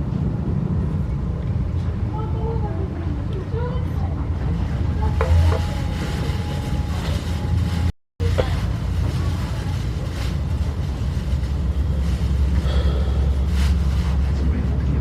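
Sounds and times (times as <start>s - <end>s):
train coach rumbling on rails: 0.0s - 15.0s.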